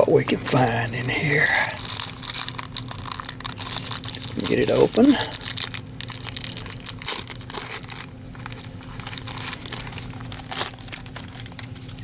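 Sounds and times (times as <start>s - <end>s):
wax paper wrapper tearing and crinkling: 0.0s - 12.0s.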